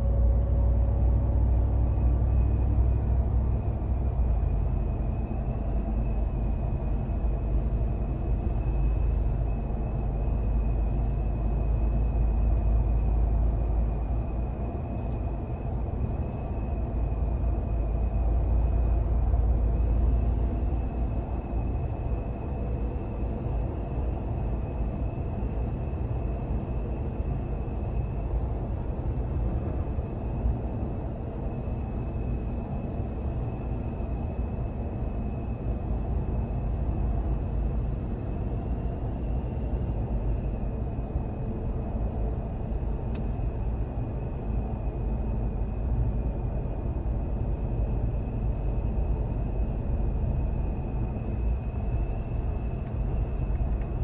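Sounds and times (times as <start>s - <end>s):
wind and road noise in cab: 0.0s - 54.0s.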